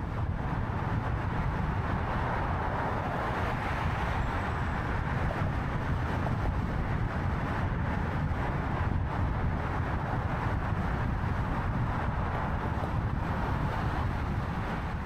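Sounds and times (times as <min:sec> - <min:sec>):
car road noise rumble: 0:00.0 - 0:15.0.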